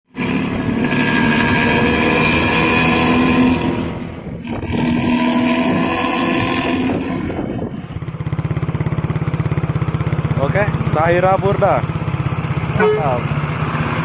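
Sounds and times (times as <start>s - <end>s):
bus diesel engine growling: 0.1s - 14.0s.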